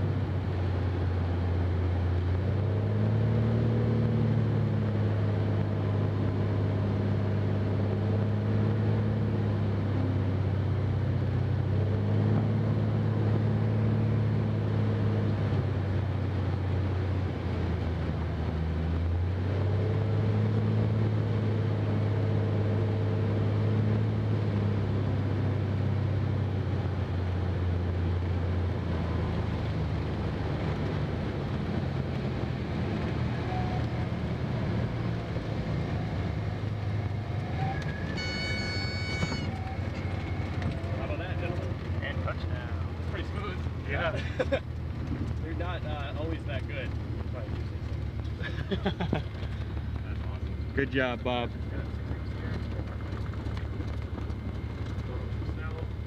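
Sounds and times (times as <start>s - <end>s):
aircraft engine and propeller droning: 3.2s - 56.0s.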